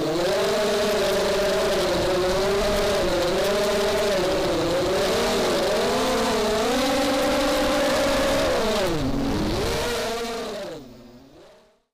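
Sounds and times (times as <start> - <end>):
drone motors whining: 0.0 - 11.7.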